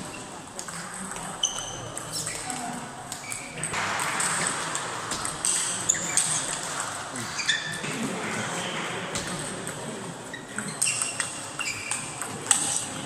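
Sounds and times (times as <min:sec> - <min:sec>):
ping-pong balls clicking: 0:00.0 - 0:13.0.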